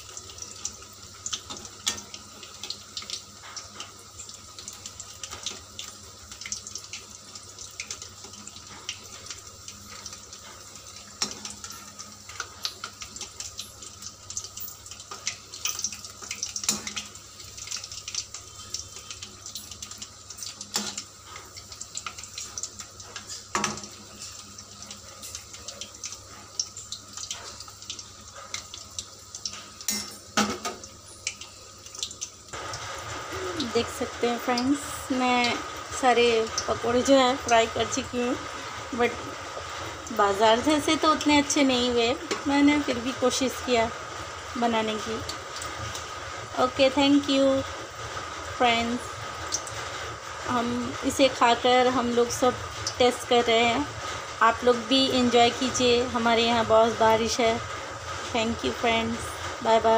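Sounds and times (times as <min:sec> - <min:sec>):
food deep-frying in oil: 0:00.0 - 0:59.9
oil crackles and pops: 0:00.0 - 0:59.9.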